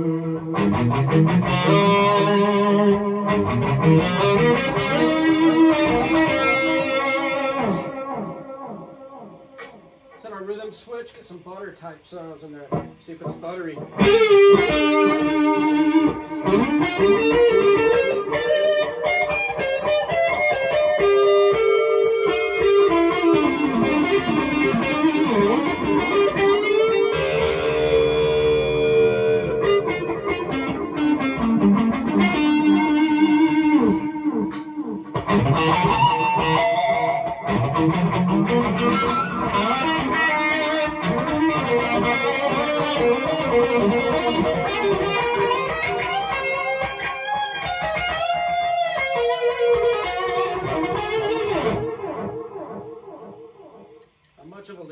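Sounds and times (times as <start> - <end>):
distorted electric guitar lead: 0.0 - 54.9.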